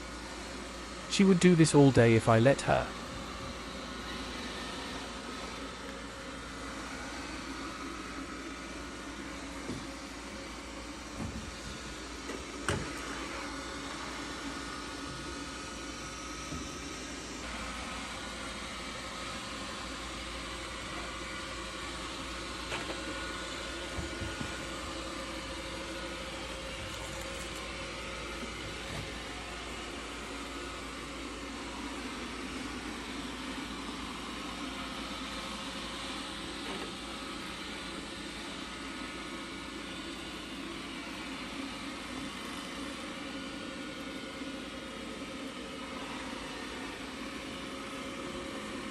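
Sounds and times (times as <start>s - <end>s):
robotic vacuum cleaner whirring: 0.0s - 1.1s, 2.7s - 48.9s.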